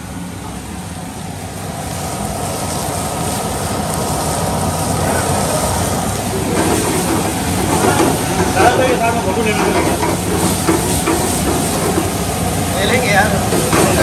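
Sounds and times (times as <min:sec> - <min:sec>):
rushing kitchen noise: 0:00.0 - 0:14.0.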